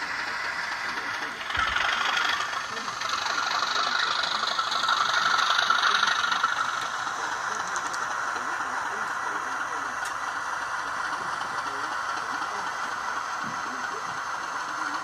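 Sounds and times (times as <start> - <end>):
thin recorded train engine sound: 0.0 - 15.0.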